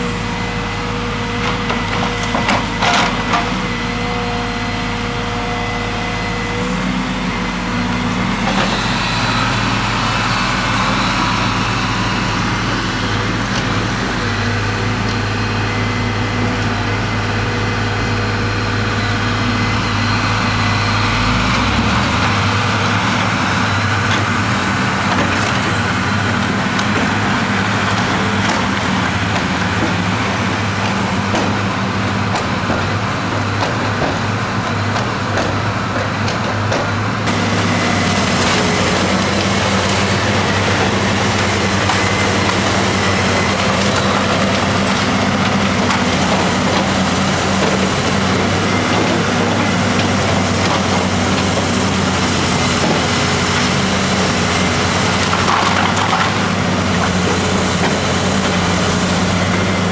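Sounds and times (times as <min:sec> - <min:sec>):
diesel excavator engines running: 0:00.0 - 0:59.9.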